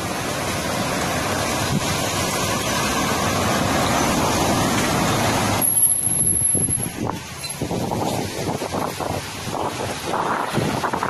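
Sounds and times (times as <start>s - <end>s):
heavy rain in windy storm: 0.0s - 11.0s.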